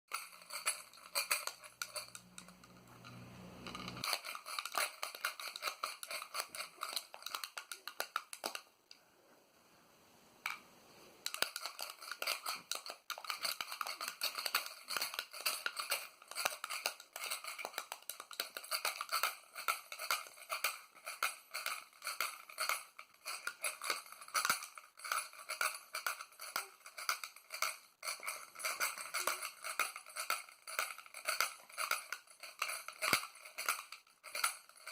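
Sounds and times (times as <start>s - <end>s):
small hard objects clicking: 0.1s - 2.8s, 3.6s - 8.7s, 11.2s - 34.9s.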